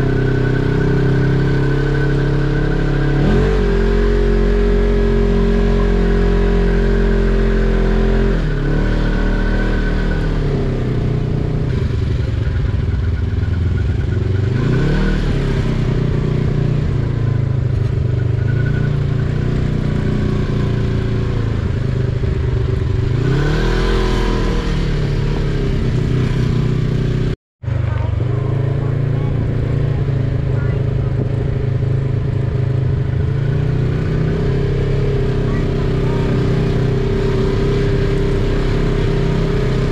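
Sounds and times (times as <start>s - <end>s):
engine revving under load: 0.0s - 39.9s.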